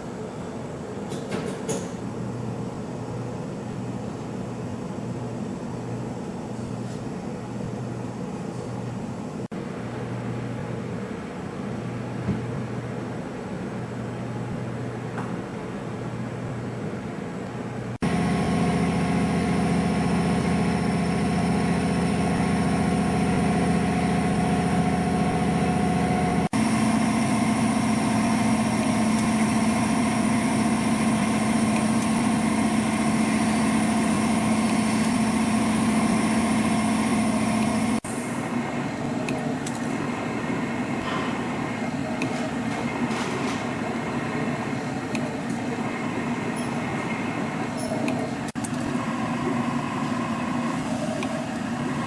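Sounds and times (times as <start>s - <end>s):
spring coiling machine humming: 0.0s - 52.0s.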